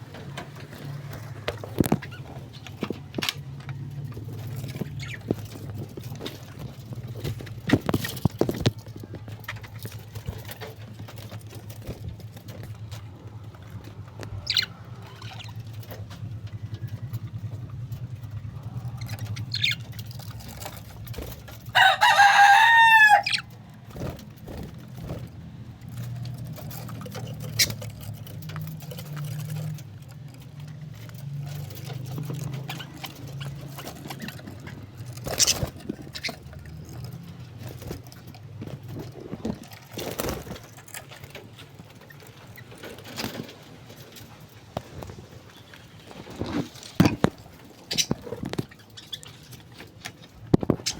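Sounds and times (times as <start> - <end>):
birds calling: 0.0 - 50.9.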